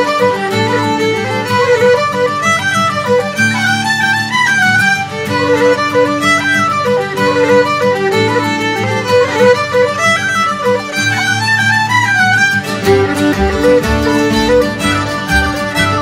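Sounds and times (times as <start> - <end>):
fiddle music: 0.0 - 16.0.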